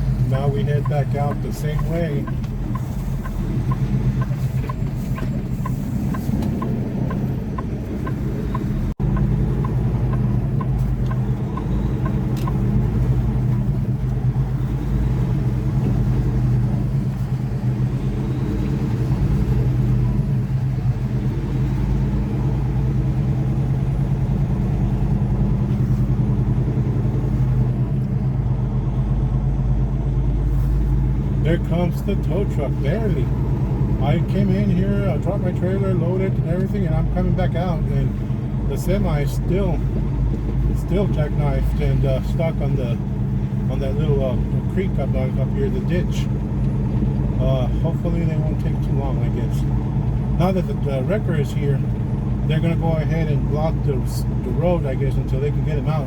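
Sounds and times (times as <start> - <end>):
diesel truck engine running: 0.0 - 56.0
turn signal ticking: 0.0 - 56.0.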